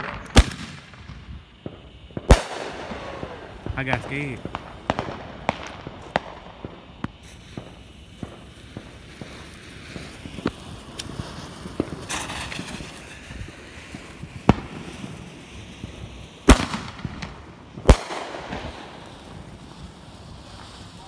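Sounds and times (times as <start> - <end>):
firework bangs: 0.0 - 21.0
firework fountains hissing: 0.0 - 21.0
small firework pops: 0.0 - 21.0.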